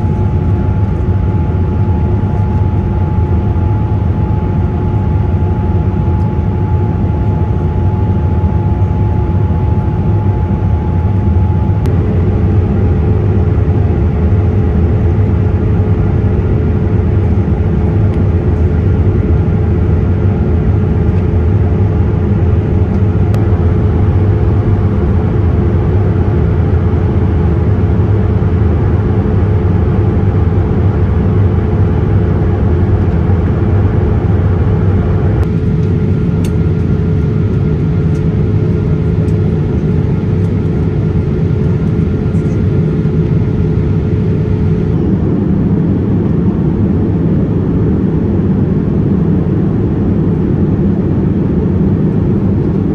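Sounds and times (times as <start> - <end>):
airliner cabin rumble: 0.0 - 52.9
steady whine: 0.0 - 52.9.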